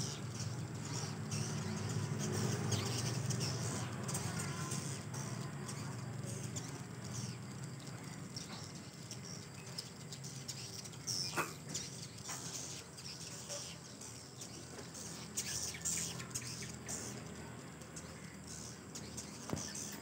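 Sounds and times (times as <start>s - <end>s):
birds twittering: 0.0s - 20.0s.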